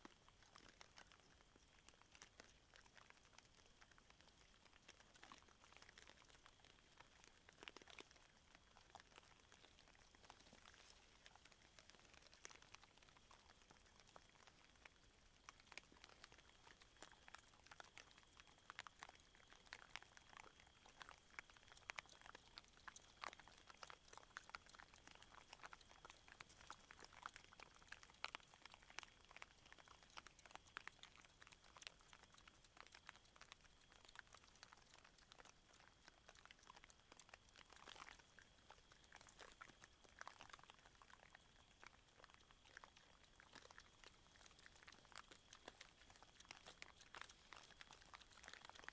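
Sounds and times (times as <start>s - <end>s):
boar chewing maize: 0.0s - 48.9s.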